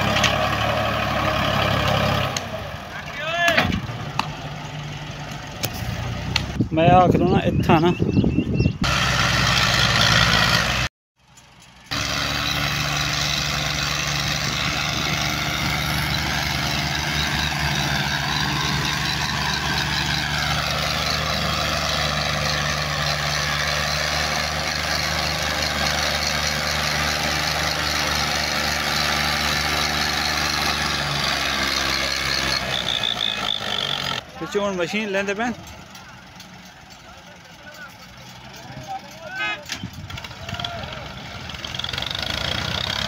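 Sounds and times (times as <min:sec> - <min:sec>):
heavy diesel engine under load: 0:00.0 - 0:43.0.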